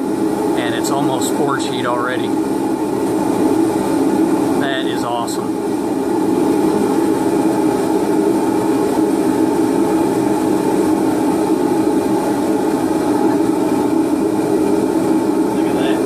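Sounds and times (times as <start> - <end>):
gas forge roaring: 0.0 - 16.0.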